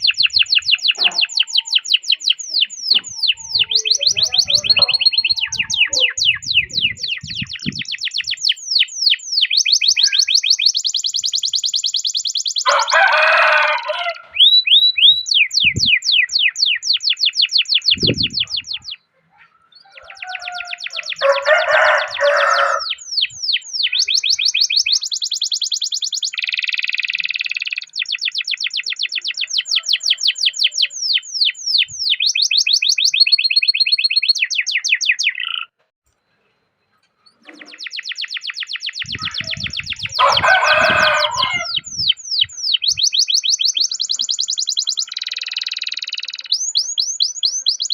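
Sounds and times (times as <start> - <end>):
canary singing trills: 0.0 - 35.8, 37.0 - 47.9.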